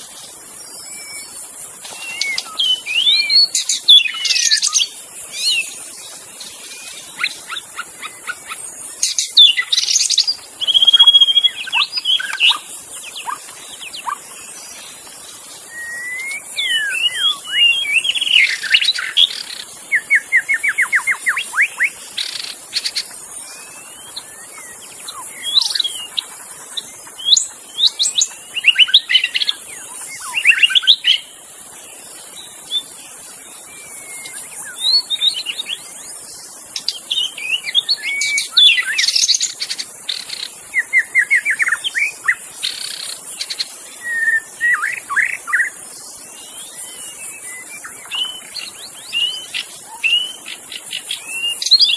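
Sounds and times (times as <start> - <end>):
steady high hiss: 0.0 - 51.9
songbird whistling and trilling: 0.8 - 5.8, 6.6 - 14.4, 15.6 - 31.4, 33.7 - 36.2, 36.8 - 45.8, 46.4 - 51.9.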